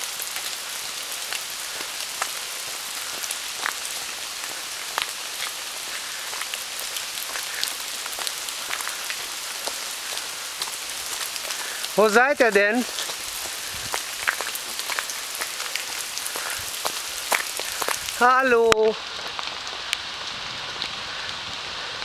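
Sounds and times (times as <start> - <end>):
rain falling: 0.0 - 22.0
raindrops ticking: 0.0 - 22.0.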